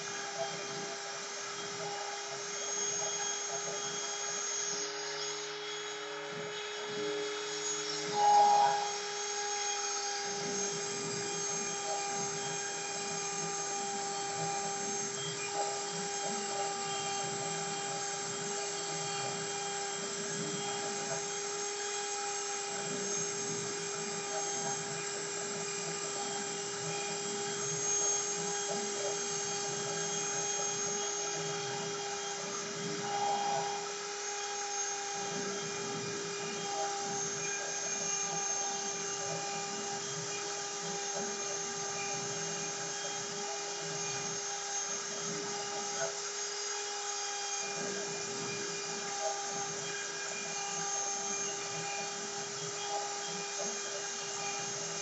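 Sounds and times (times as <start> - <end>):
router spindle motor whine: 0.0 - 55.0.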